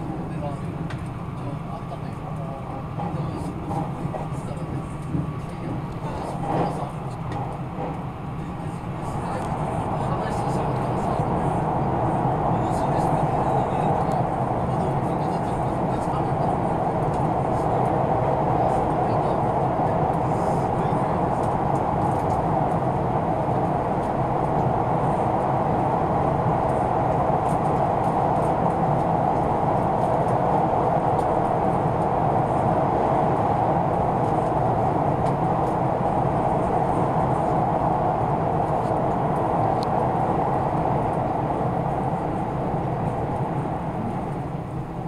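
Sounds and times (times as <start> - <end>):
train rumbling at speed: 0.0 - 45.0.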